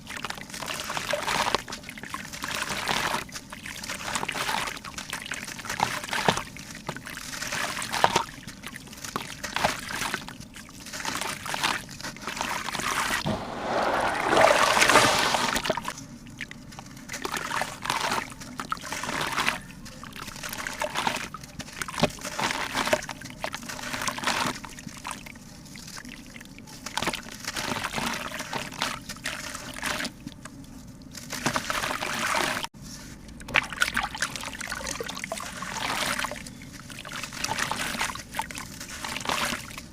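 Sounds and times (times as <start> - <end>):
water trickling and sloshing: 0.0 - 39.9.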